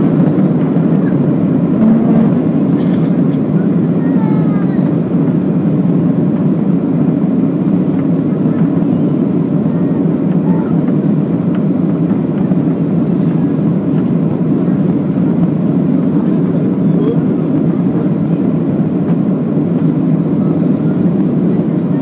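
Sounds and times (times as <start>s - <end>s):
jet engine rumble in cabin: 0.0s - 22.0s.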